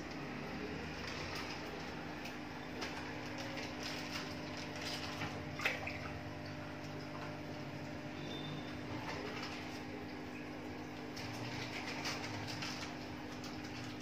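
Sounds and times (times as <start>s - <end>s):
water splashing in fish tank: 0.0s - 14.0s.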